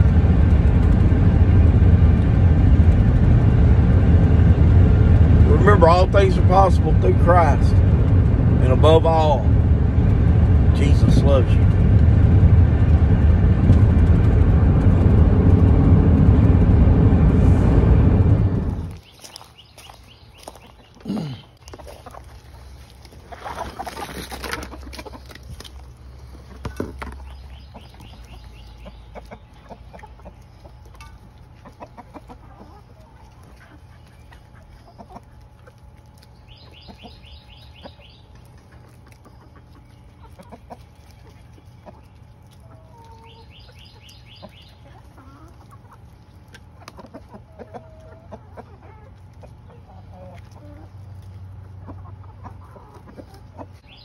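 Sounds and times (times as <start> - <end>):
chickens clucking: 0.0 - 54.0
low steady hum: 0.0 - 54.0.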